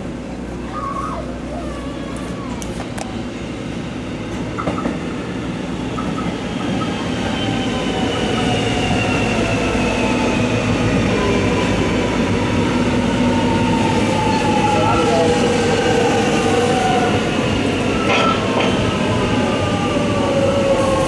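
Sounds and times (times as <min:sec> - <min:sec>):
electric train approaching: 0:00.0 - 0:21.0.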